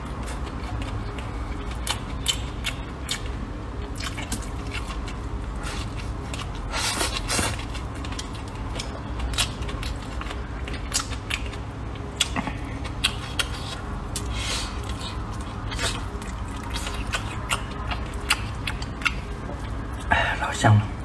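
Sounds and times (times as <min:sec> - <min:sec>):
chewing with wet clicks: 0:00.0 - 0:20.1.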